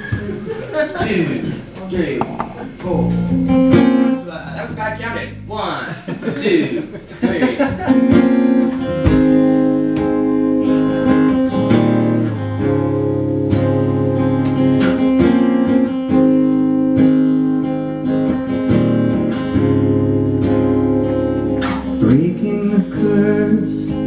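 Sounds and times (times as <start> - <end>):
acoustic guitar strumming: 2.0 - 5.8, 7.0 - 24.0.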